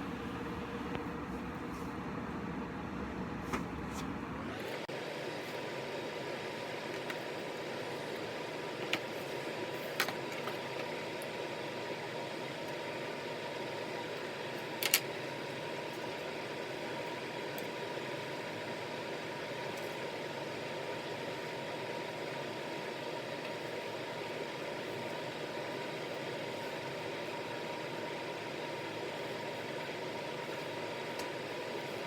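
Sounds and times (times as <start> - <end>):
faint steady hum: 0.0 - 32.0
small fan whirring: 0.0 - 32.0.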